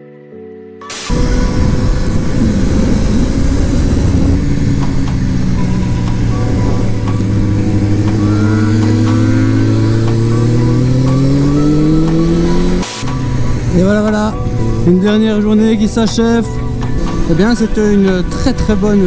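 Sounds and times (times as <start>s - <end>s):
motorcycle engine revving: 1.0s - 19.0s.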